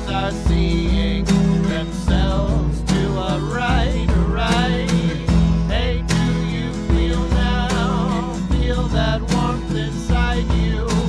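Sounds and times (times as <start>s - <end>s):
song with singing over guitar: 0.0s - 11.0s.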